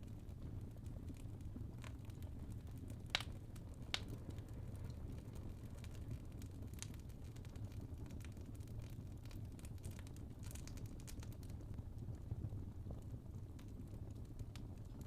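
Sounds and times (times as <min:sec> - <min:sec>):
burning logs crackling: 0:00.0 - 0:15.0
low rumble of flames: 0:00.0 - 0:15.0.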